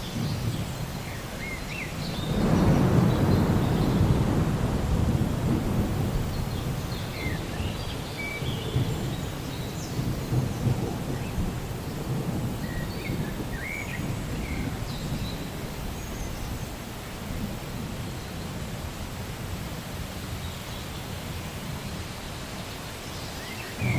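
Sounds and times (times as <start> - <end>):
thunder rumbling: 0.0 - 19.6
steady rain: 0.0 - 23.9.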